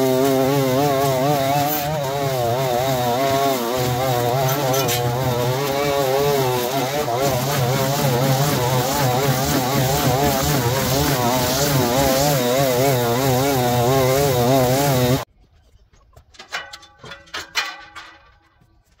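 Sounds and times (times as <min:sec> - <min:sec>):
string trimmer cutting grass: 0:00.0 - 0:15.3.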